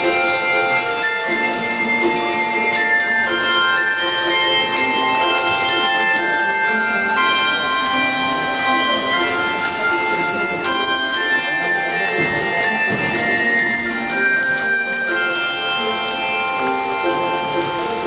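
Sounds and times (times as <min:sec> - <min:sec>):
handbell choir playing a hymn: 0:00.0 - 0:18.0.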